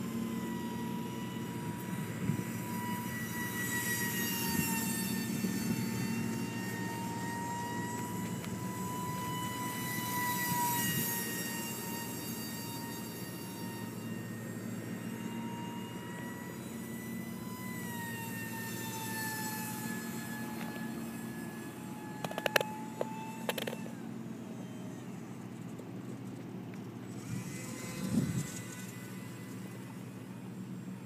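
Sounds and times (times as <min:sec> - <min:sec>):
electric ducted fan whining: 0:00.0 - 0:31.0.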